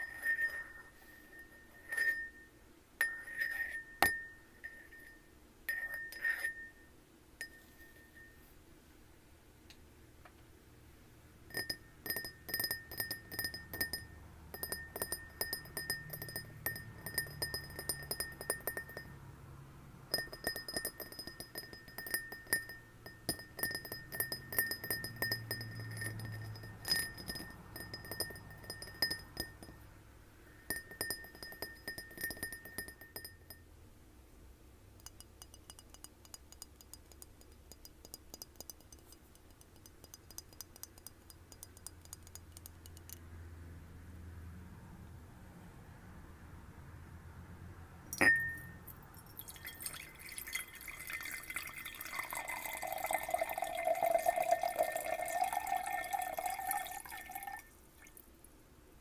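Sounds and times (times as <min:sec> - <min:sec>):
tapping on glass with ring: 0:00.0 - 0:08.4, 0:11.5 - 0:19.2, 0:20.1 - 0:33.7, 0:35.0 - 0:43.3, 0:48.1 - 0:57.6.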